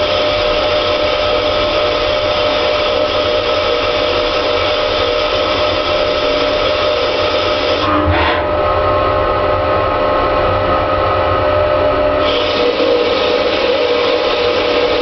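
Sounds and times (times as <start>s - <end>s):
lathe machine whine: 0.0s - 15.0s.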